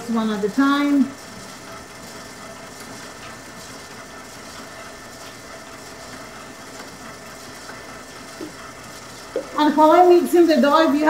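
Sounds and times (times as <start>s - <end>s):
stand mixer motor humming: 0.0s - 11.0s.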